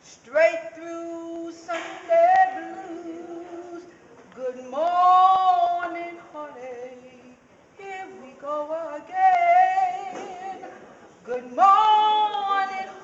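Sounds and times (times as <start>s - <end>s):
woman singing a slow ballad: 0.0s - 13.0s.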